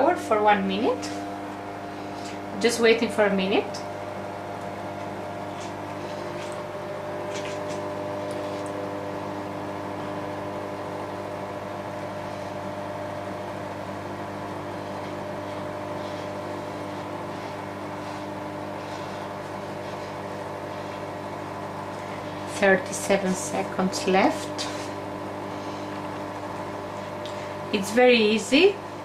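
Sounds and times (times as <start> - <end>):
microwave oven humming: 0.0 - 29.0.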